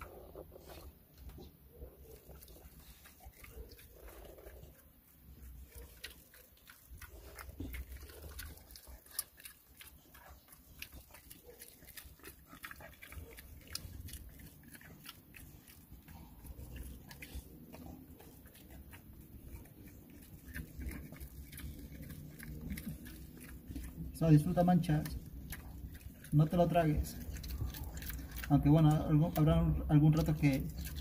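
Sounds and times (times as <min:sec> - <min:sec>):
dog chewing crunchy treat: 0:00.0 - 0:31.0.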